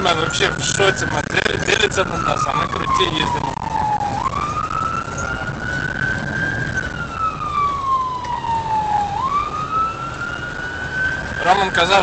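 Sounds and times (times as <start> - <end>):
ambulance siren wailing: 0.0 - 12.0
moving vehicle rumble: 0.0 - 12.0.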